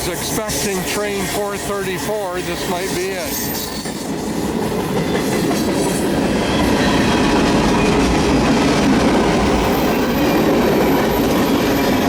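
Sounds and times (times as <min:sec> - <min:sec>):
freight train rolling on rails: 0:00.0 - 0:12.0.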